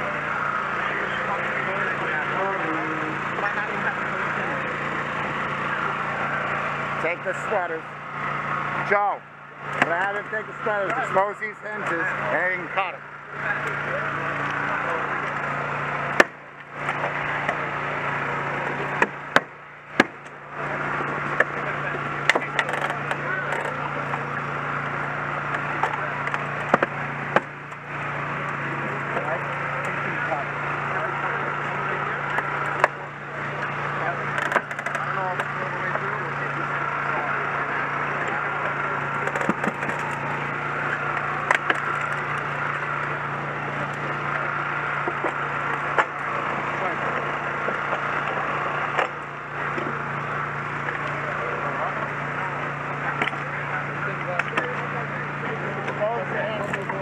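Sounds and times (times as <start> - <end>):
hydraulic tools cutting car metal: 0.0 - 57.0
power unit drone: 0.0 - 57.0.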